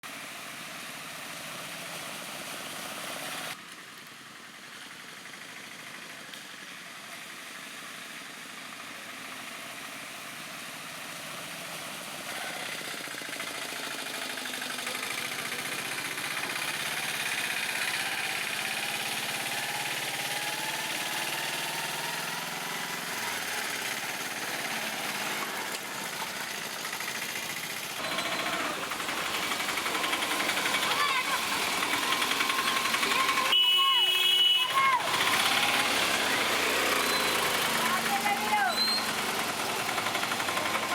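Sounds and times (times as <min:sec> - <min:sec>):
three-wheeler engine chugging: 0:00.1 - 0:40.9.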